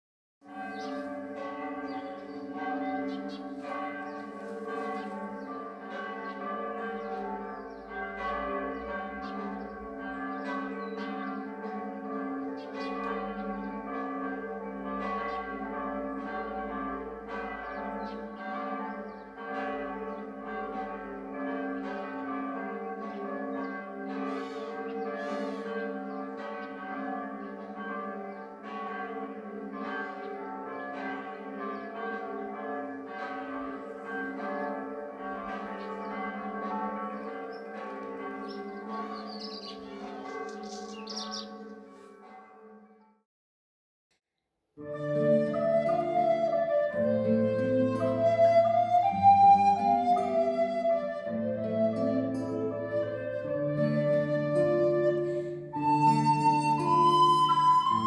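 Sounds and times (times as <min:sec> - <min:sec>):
church bells pealing: 0:00.4 - 0:43.1, 0:44.8 - 0:58.0.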